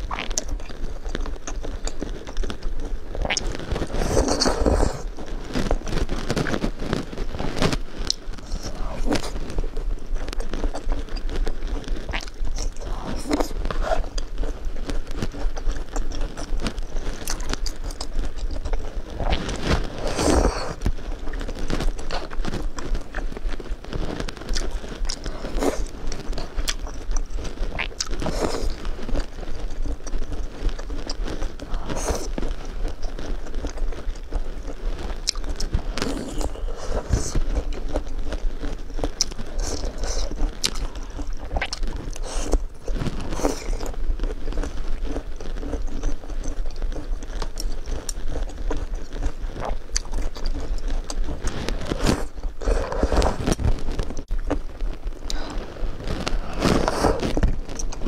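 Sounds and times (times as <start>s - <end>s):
chewing and biting food: 0.0s - 58.0s
steady low hum: 0.0s - 58.0s.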